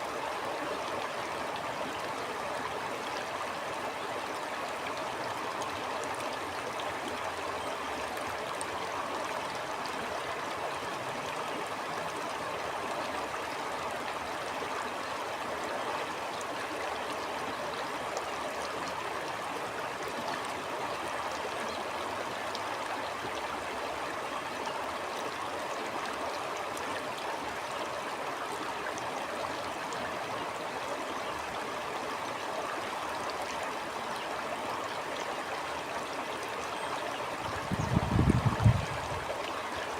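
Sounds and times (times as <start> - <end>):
stream rushing: 0.0 - 39.9
water trickling and gurgling: 0.0 - 39.9.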